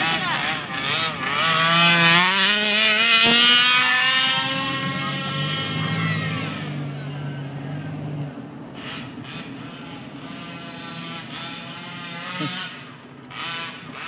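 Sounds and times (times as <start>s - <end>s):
two-stroke rc buggy engine revving: 0.0s - 14.0s.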